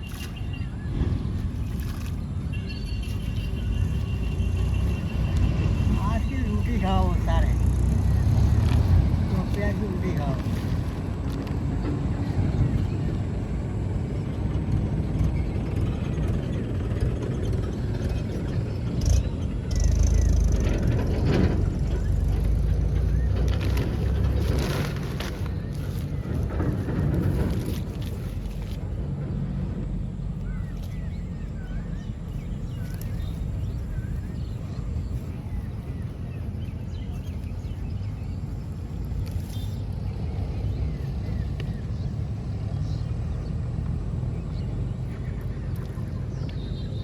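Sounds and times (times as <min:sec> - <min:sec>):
steady low rumble: 0:00.0 - 0:47.0
wind buffeting microphone: 0:00.0 - 0:47.0.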